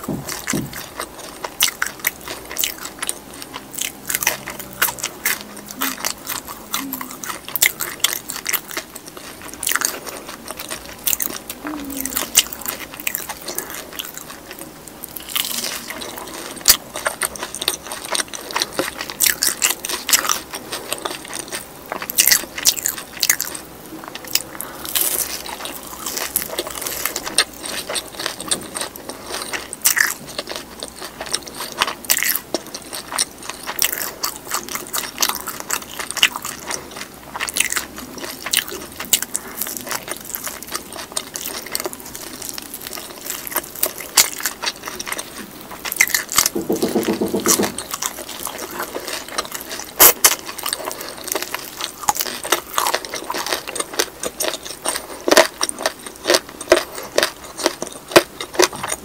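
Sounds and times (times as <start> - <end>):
close chewing with wet mouth clicks: 0.0 - 59.0.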